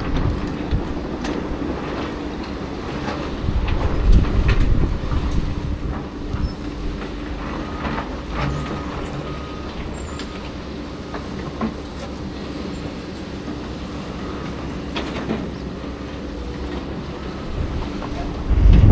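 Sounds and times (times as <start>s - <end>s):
heavy machine rumbling: 0.0s - 18.9s.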